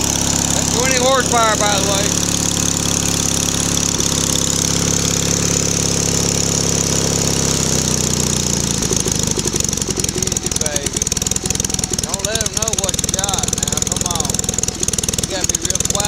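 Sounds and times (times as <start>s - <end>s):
small engine running unevenly: 0.0s - 16.0s.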